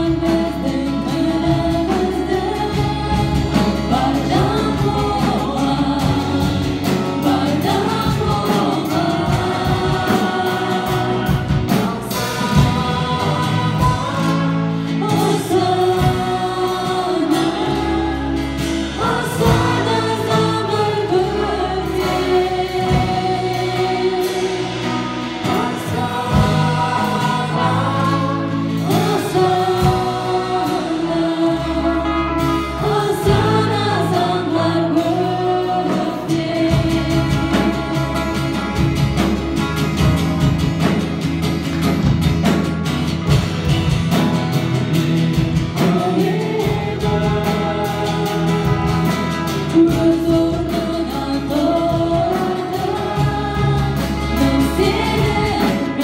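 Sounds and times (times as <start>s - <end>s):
people singing together: 0.0s - 42.7s, 43.3s - 56.0s
acoustic guitar: 0.0s - 56.0s.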